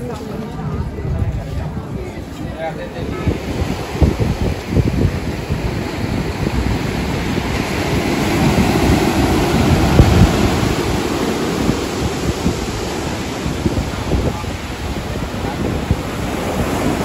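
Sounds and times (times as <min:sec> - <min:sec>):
wind buffeting microphone: 0:00.0 - 0:17.0
sea surf breaking on beach: 0:03.0 - 0:17.0.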